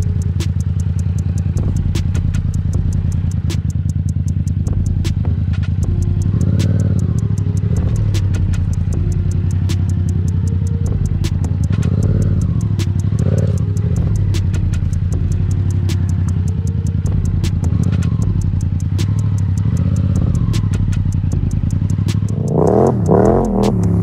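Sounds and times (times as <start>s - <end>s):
motorcycle engine running: 0.0s - 24.0s
rapid light ticking: 0.0s - 24.0s.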